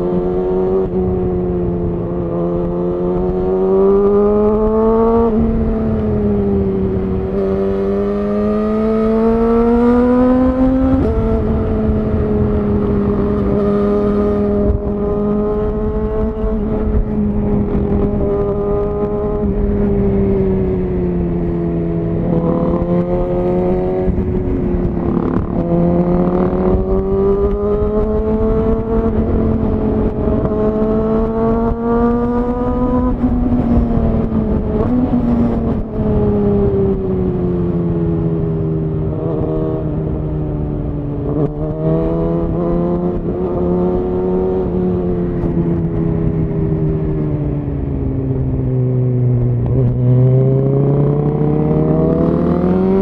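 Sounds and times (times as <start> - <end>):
motorcycle engine shifting gears: 0.0 - 53.0.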